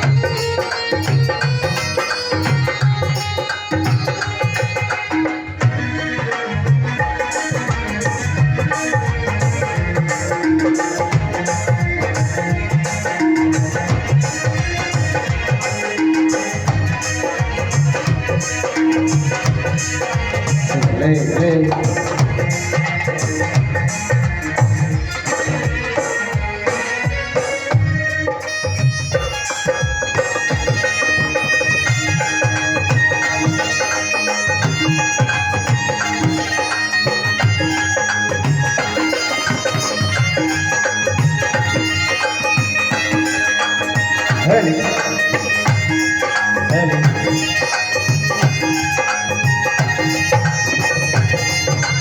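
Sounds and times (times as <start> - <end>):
dhol drumming: 0.0 - 52.0
melody of held notes: 0.0 - 52.0.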